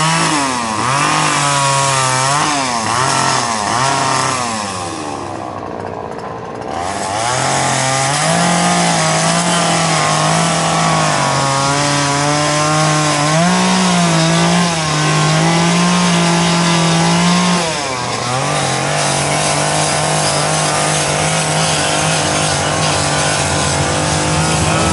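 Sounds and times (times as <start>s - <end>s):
chainsaw revving: 0.0s - 24.9s.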